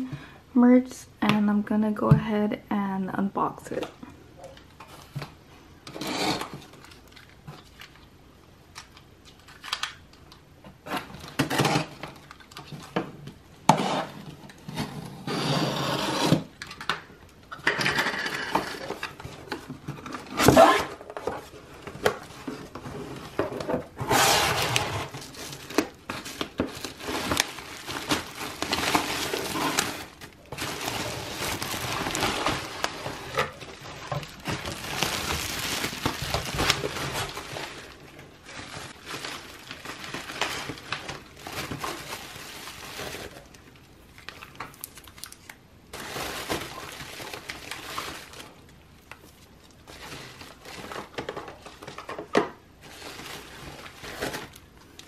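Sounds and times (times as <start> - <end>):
bubble wrap rustling and crinkling: 4.4 - 17.0, 17.6 - 55.0.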